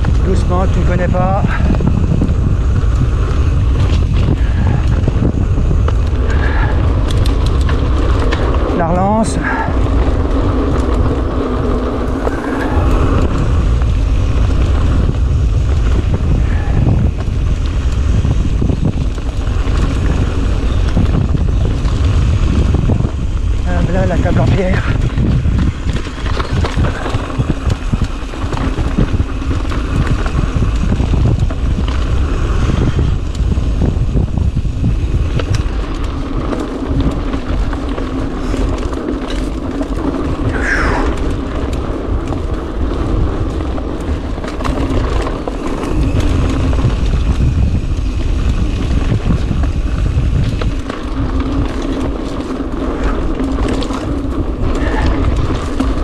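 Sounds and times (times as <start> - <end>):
bike rattling and knocking: 0.0 - 56.0
wind rushing on microphone: 0.0 - 56.0.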